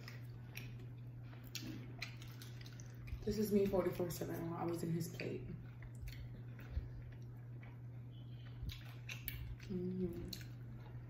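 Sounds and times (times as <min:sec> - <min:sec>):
wet chewing sounds: 0:00.0 - 0:11.0.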